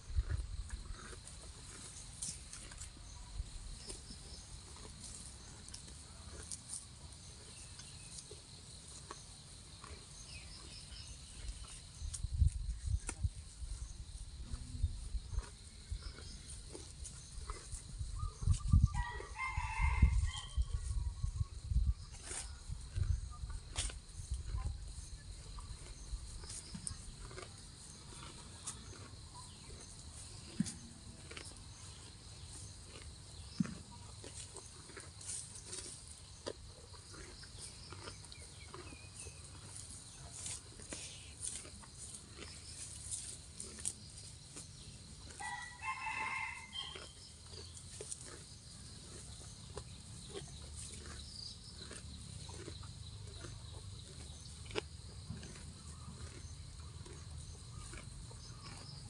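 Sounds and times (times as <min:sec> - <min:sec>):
cow tearing and chewing grass: 0:00.0 - 0:59.0.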